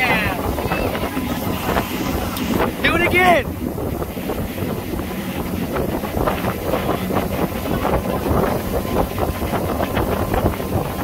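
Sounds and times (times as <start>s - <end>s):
motorboat engine drone: 0.0s - 11.0s
rush of boat wake: 0.0s - 11.0s
wind buffeting microphone: 0.0s - 11.0s.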